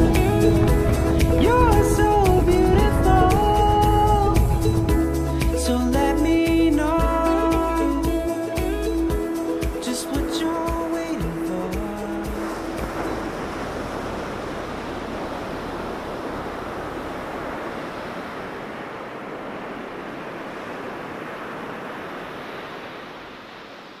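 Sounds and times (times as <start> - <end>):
ocean surf washing on beach: 0.0 - 24.0.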